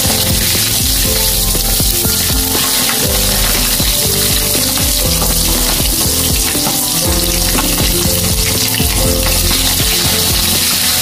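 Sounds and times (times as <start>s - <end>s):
meat deep-frying in oil: 0.0s - 11.0s.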